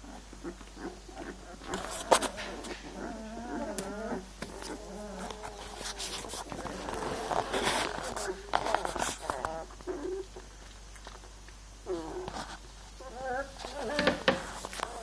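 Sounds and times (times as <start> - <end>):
puppies whimpering and squeaking: 0.0 - 10.4, 11.9 - 15.0
puppies scuffling and crawling: 0.4 - 15.0.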